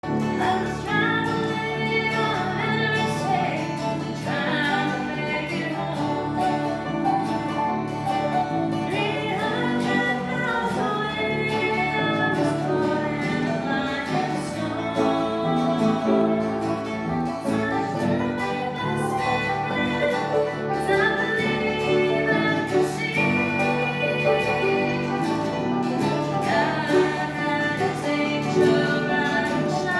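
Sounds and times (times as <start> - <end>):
guitar accompaniment: 0.0 - 29.9
group singing gospel song: 0.2 - 7.3, 9.0 - 29.9.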